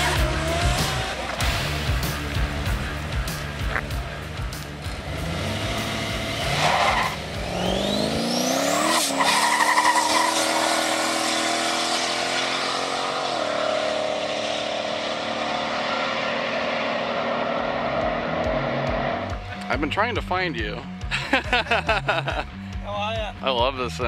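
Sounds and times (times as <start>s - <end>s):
car engine accelerating hard: 0.0s - 19.7s.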